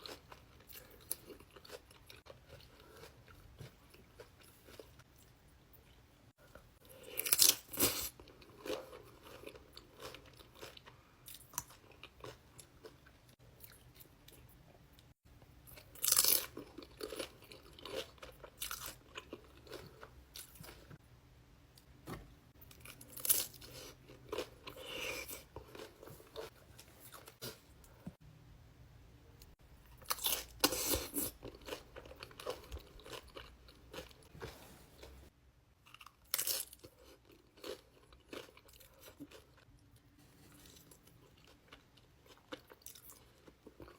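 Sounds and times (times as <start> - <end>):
person chewing crunchy food: 0.0 - 14.5, 15.7 - 20.9, 22.6 - 28.0, 29.9 - 43.9.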